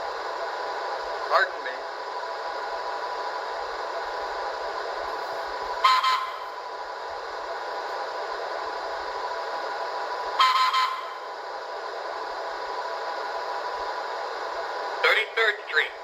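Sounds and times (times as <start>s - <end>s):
model train motor and wheel hum: 0.0s - 16.0s.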